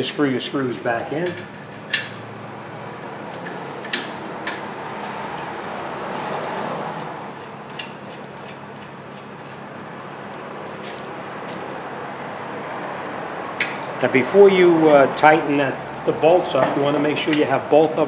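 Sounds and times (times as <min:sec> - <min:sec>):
workshop background noise: 0:00.0 - 0:18.0.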